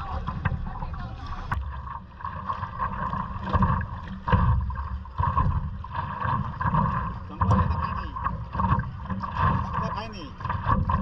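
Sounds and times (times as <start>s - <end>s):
water splashing against paddleboard: 0.0s - 11.0s.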